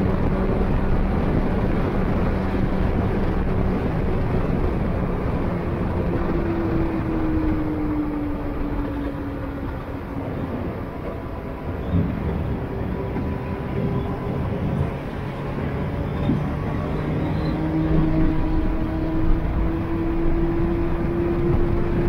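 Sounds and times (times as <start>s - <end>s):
car engine humming: 0.0s - 22.0s
road and wind noise: 0.0s - 22.0s.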